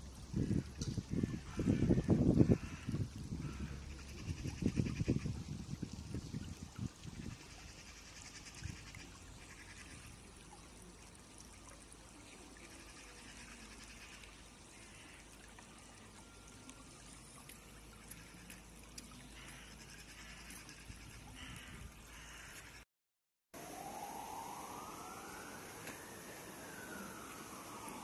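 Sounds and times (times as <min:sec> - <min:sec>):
stream trickling over stones: 0:00.0 - 0:22.8, 0:23.6 - 0:28.0.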